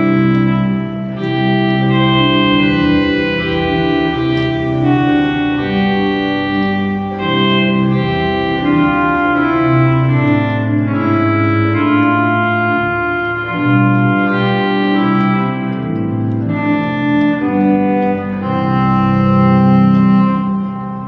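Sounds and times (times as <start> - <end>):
organ pedal bass: 0.0 - 21.0
organ reed melody: 0.0 - 21.0
pipe organ chords: 0.0 - 21.0.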